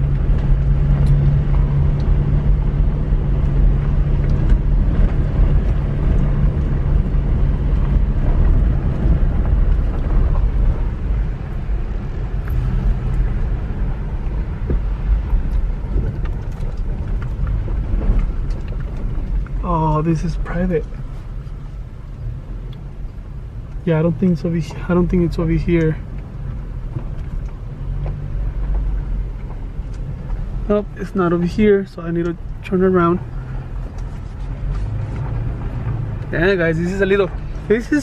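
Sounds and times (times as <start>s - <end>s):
low engine hum: 0.0s - 38.0s
tyre and road noise: 0.0s - 38.0s.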